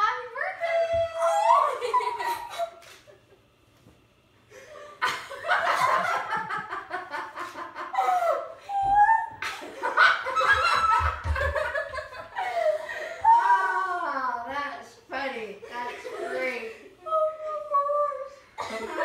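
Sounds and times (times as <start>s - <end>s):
women laughing and exclaiming: 0.4s - 3.0s, 4.8s - 14.5s, 15.6s - 19.0s.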